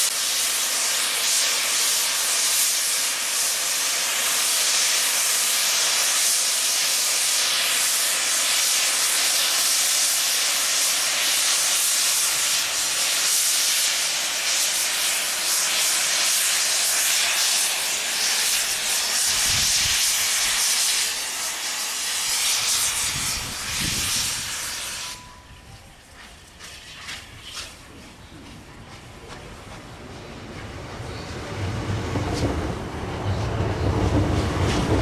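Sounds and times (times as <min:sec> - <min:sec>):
steam hissing: 0:00.0 - 0:28.6.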